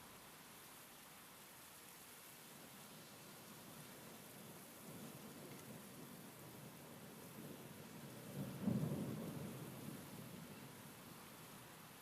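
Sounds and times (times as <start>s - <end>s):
rain and wind hiss: 0.0s - 12.0s.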